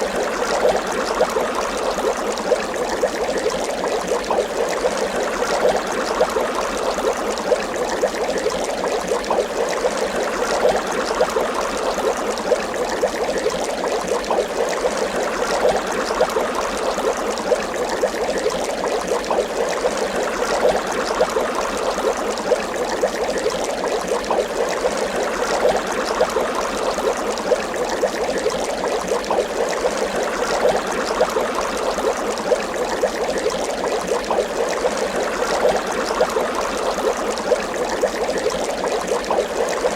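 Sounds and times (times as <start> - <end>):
water bubbling: 0.0 - 39.9.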